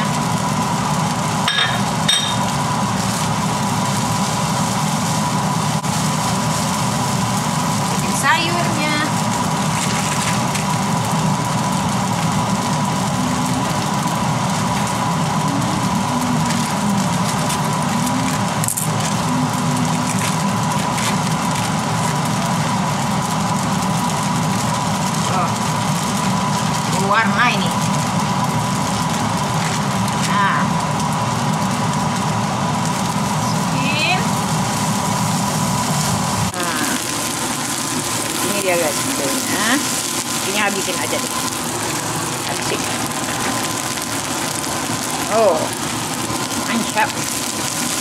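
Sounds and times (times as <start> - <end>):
range hood fan humming: 0.0 - 48.0
plastic bag crinkling: 1.8 - 48.0.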